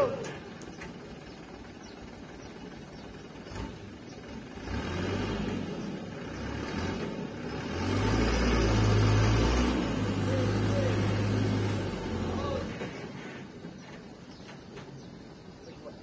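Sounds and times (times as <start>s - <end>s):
diesel truck engine revving: 0.0s - 14.2s.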